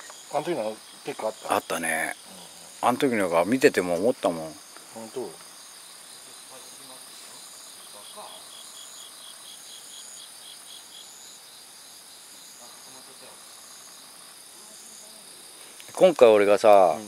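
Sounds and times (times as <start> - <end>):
night insects chirping: 0.0 - 17.0
rapid pulsed insect chirp: 0.0 - 17.0.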